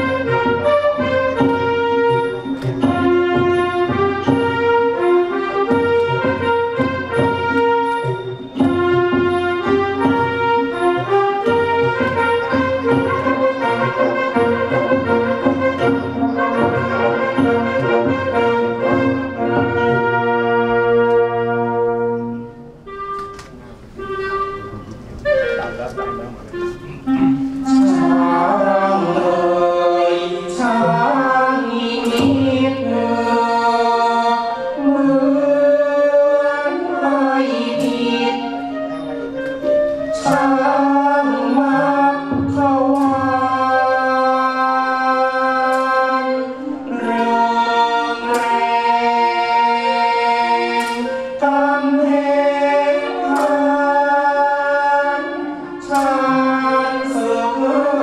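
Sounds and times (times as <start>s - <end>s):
sharp percussion strikes: 0.0s - 21.6s, 22.2s - 35.3s, 37.3s - 54.2s, 55.6s - 58.0s
chorus singing long notes: 0.0s - 58.0s
orchestral accompaniment: 0.0s - 58.0s.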